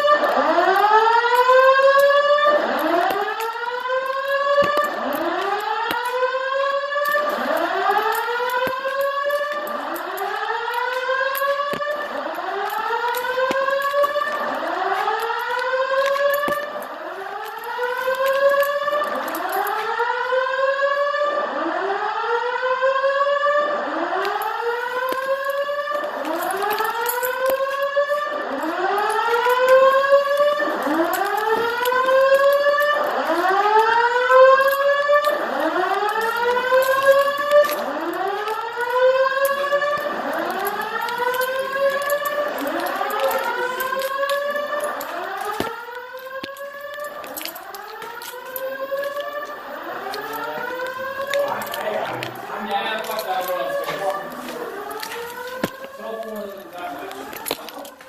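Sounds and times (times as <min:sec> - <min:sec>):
fire alarm whoop tone: 0:00.0 - 0:58.0.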